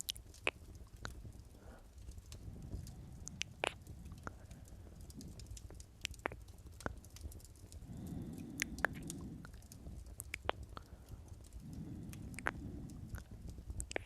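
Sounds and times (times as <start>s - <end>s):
wet mouth clicks: 0.0s - 1.3s, 2.0s - 14.0s
lip smacks: 0.0s - 14.0s.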